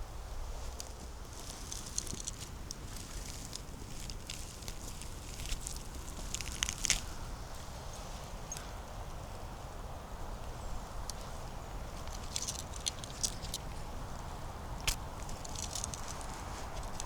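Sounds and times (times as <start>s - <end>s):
footsteps on dry leaves and twigs: 0.4s - 8.4s, 11.2s - 17.0s.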